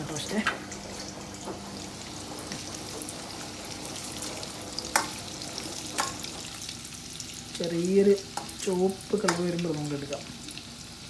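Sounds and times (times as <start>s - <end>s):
potatoes sizzling in oil: 0.0s - 11.0s.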